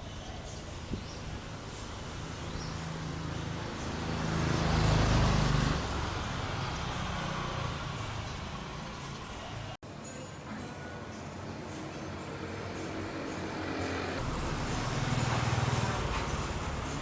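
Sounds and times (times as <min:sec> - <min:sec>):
steady street traffic: 0:00.0 - 0:17.0
motor vehicle passing by: 0:01.4 - 0:09.8, 0:11.4 - 0:17.0.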